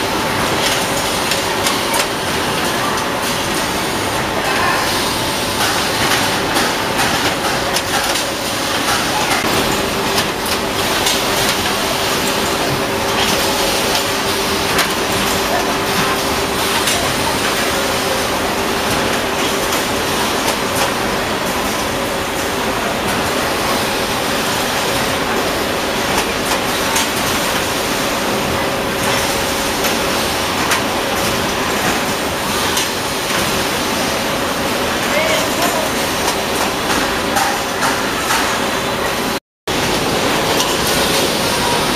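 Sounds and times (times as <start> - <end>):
packing machinery running: 0.0 - 41.9.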